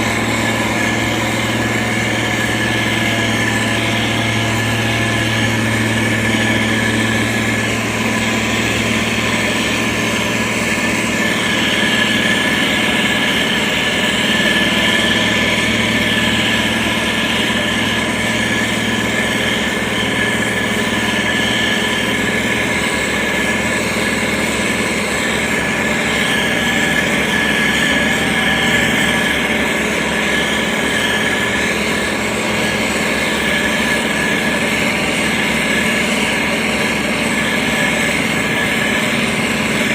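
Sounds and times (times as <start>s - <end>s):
diesel engine running with high whine: 0.0s - 39.9s.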